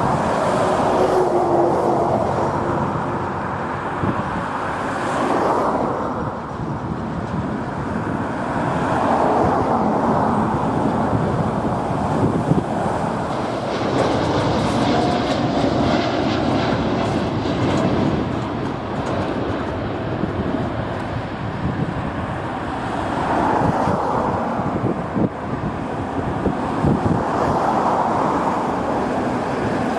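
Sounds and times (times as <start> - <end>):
jet airliner engines on take-off: 0.0 - 29.9
wind on microphone: 0.0 - 29.9.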